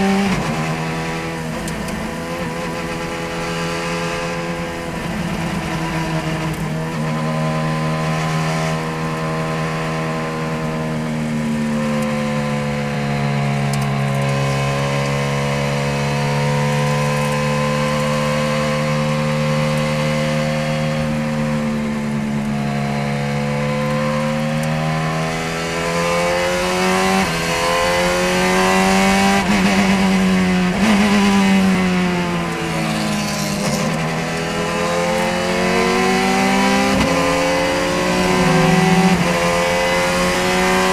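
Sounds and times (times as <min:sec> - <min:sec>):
racing car engine running hard: 0:00.0 - 0:40.9.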